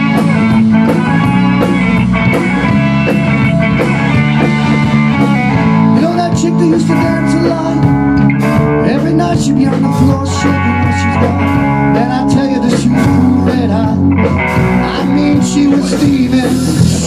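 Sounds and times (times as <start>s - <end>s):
drum kit with cymbals: 0.0s - 17.0s
electric bass: 0.0s - 17.0s
electric guitar lead: 0.0s - 17.0s.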